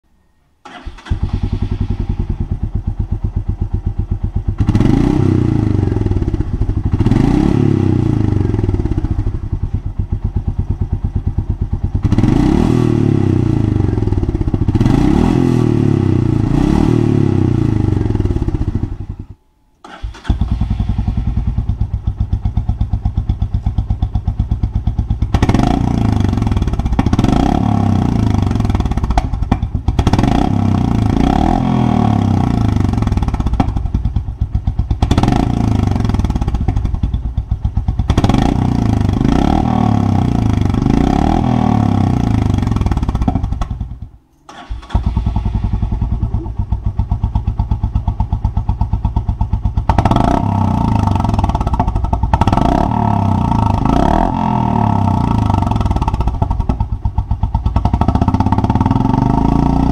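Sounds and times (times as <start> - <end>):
motorcycle engine idling and revving: 0.6 - 59.9.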